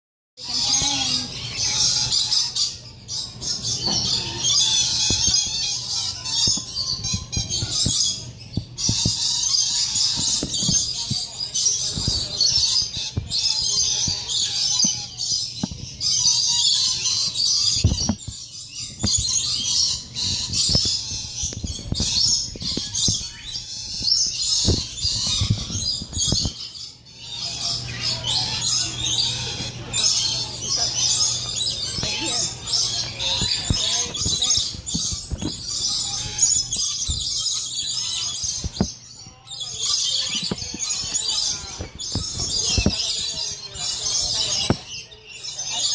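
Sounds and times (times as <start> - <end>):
chorus of birds chirping: 0.4 - 45.9.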